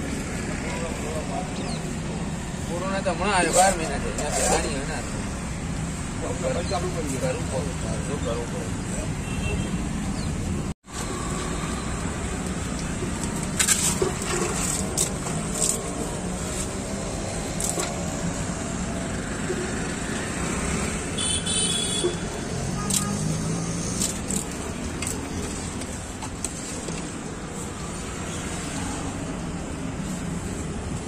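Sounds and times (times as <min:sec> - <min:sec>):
steady traffic noise: 0:00.0 - 0:31.0.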